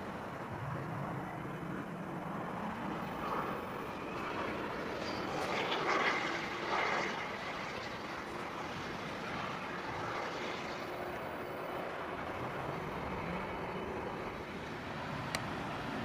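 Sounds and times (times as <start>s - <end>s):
jet engines running at low power: 0.0s - 16.0s.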